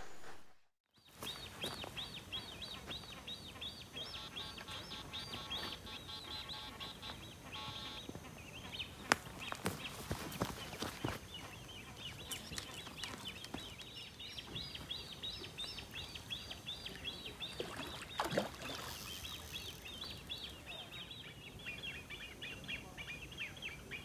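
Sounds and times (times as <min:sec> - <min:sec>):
bird chirping rapidly: 0:01.3 - 0:24.0.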